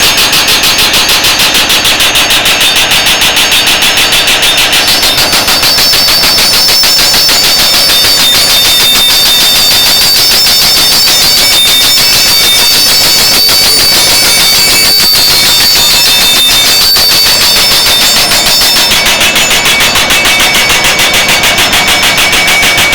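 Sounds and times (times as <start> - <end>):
high steady ring: 0.0 - 22.9
hydraulic breaker hammering: 0.0 - 22.9.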